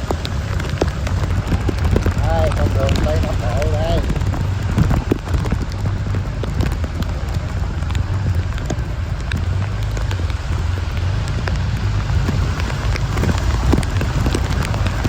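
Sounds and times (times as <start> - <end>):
heavy rain falling: 0.0 - 15.0
raindrops ticking close by: 0.0 - 15.0
steady low rumble: 0.0 - 15.0.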